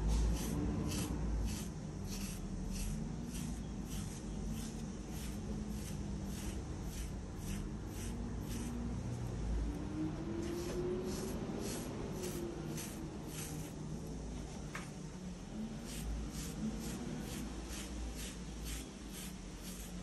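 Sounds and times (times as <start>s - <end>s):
carding knife strokes through dog fur: 0.1s - 8.9s, 10.4s - 13.8s, 15.8s - 20.0s.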